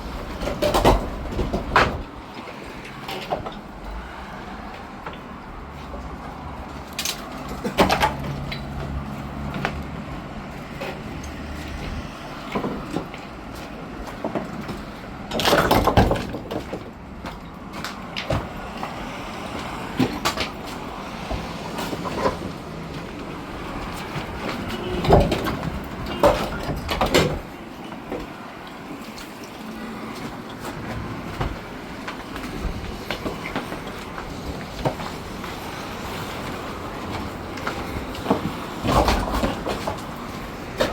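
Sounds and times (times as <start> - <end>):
body knocks and rattles: 0.0 - 4.1, 4.7 - 40.9.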